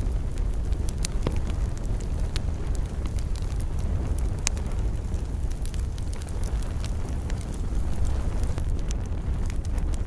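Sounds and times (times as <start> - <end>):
campfire crackling and popping: 0.0 - 10.0
low fire rumble: 0.0 - 10.0.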